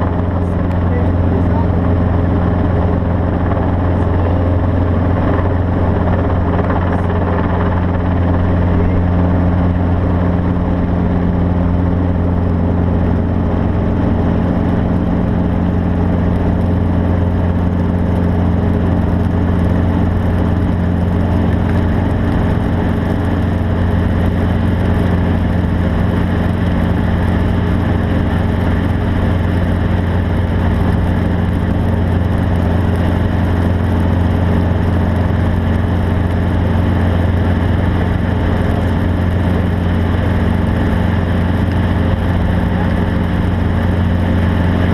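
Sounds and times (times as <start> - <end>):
engine droning: 0.0 - 44.9.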